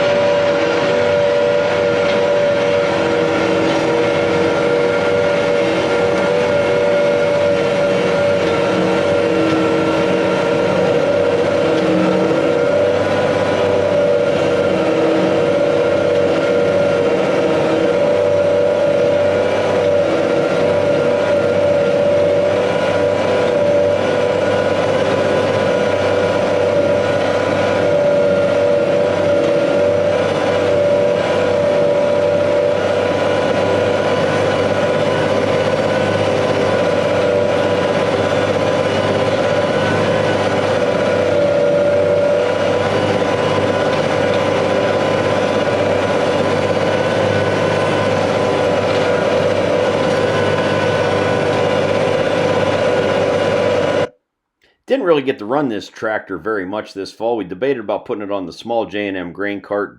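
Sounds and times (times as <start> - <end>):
tractor diesel engine running: 0.0 - 56.2.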